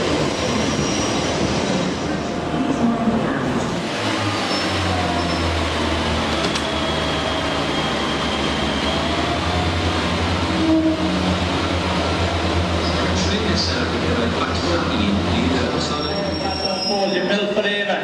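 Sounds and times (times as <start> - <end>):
diesel train engine droning: 0.0 - 17.8.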